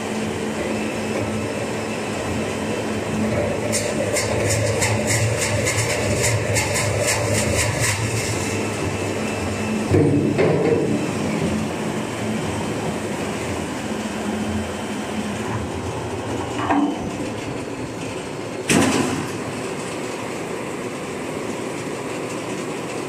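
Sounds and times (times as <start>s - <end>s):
steady machine noise: 0.0s - 23.0s.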